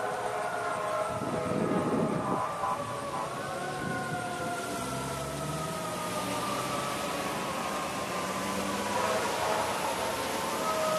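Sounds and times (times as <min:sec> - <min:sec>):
fire engine siren: 0:00.0 - 0:10.9
passing traffic rush: 0:00.0 - 0:10.9.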